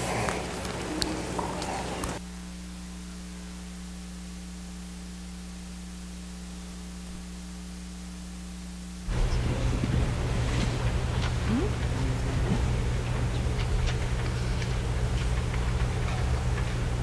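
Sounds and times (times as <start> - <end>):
audio hiss: 0.0 - 17.0
electrical mains hum: 0.0 - 17.0
room noise: 0.0 - 17.0.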